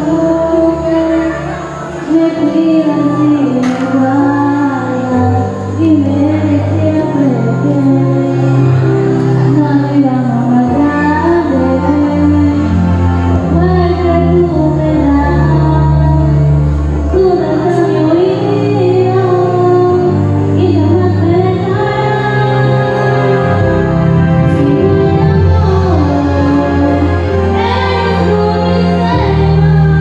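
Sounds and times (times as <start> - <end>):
recorded backing track: 0.0 - 30.0
woman singing into microphone: 0.0 - 30.0.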